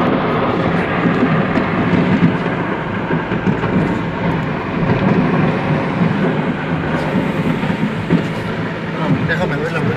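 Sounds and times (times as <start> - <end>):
fireworks booming and crackling: 0.0 - 9.9
road noise inside moving car: 0.0 - 9.9.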